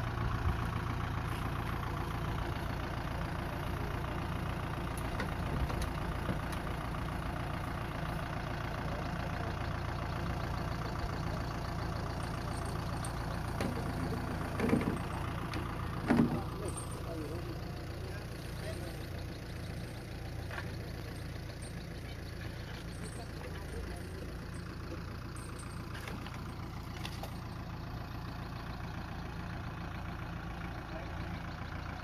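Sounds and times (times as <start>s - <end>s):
diesel tractor engine idling: 0.0s - 32.0s.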